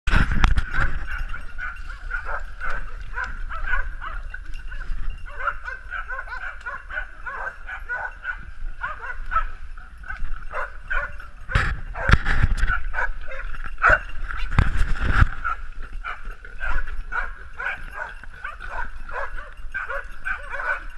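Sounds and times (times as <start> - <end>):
dogs baying and yelping: 0.4 - 20.9.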